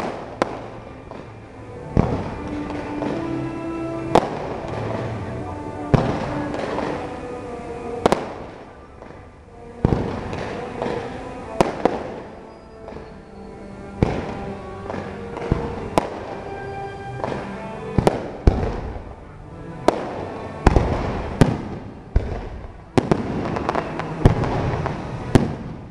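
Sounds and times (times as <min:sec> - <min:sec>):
fireworks bangs: 0:00.0 - 0:07.3, 0:08.0 - 0:13.4, 0:14.0 - 0:16.5, 0:17.2 - 0:25.9
music playing: 0:00.0 - 0:25.9.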